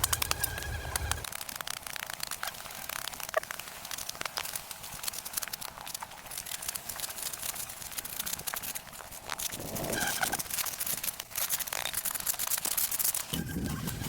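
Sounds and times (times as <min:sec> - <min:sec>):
rustling and crackling clicks: 0:00.0 - 0:14.0.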